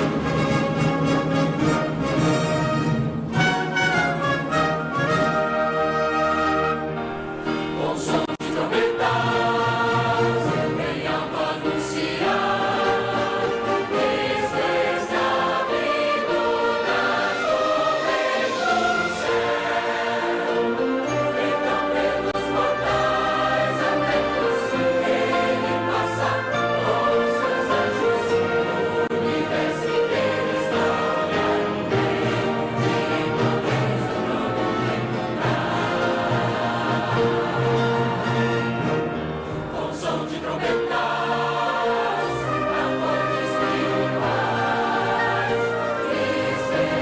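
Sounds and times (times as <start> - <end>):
band accompanying: 0.0 - 47.0
choir singing sacred music: 0.0 - 47.0.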